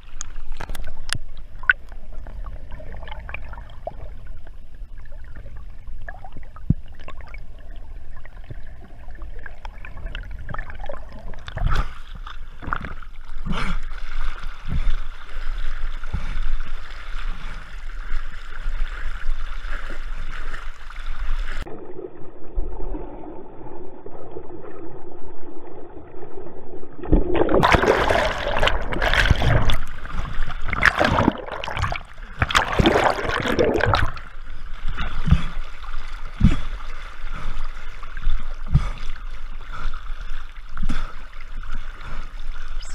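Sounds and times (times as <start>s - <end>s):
water sloshing and splashing: 0.0s - 42.9s.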